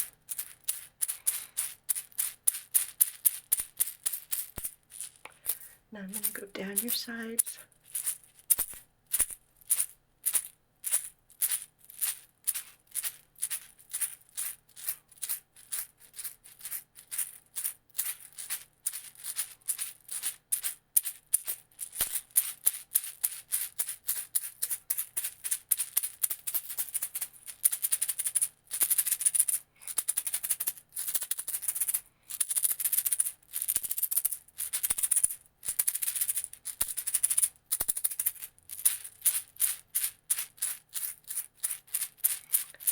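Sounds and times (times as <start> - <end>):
hand rattle shaking: 0.0 - 42.9.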